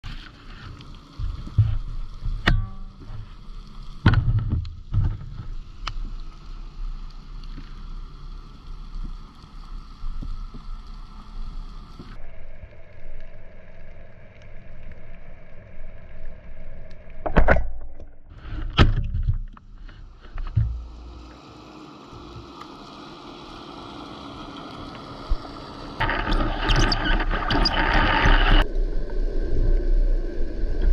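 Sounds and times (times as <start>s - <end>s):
underwater hiss and hum: 0.0s - 30.9s.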